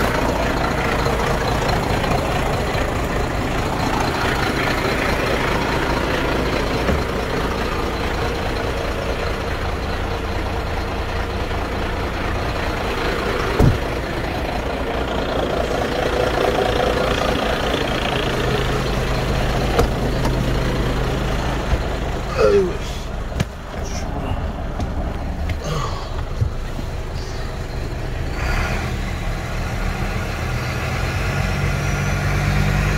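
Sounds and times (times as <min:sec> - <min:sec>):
diesel engine idling: 0:00.0 - 0:32.9.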